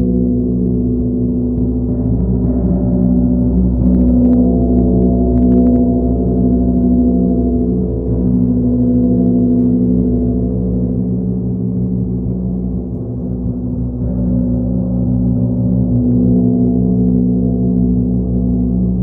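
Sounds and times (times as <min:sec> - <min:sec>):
monochord and gong drone: 0:00.0 - 0:19.0.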